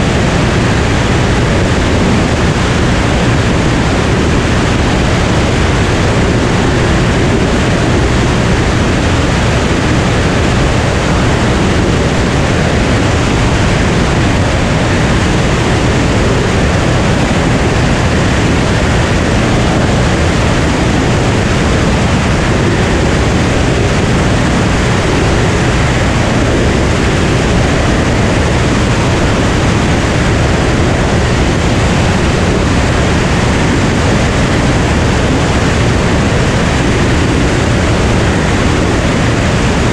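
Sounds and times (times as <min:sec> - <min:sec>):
propeller plane engine drone: 0:00.0 - 0:39.9
wind rushing over microphone: 0:00.0 - 0:39.9.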